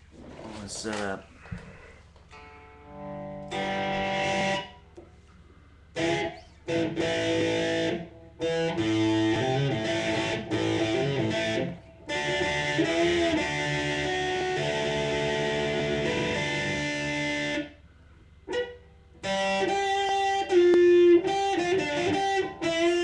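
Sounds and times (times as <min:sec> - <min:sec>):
distorted electric guitar riffs: 0:01.7 - 0:23.0.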